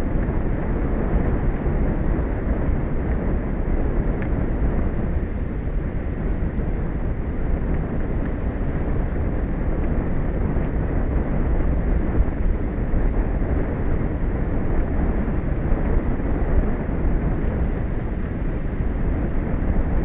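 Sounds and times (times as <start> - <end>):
sea: 0.0 - 20.0.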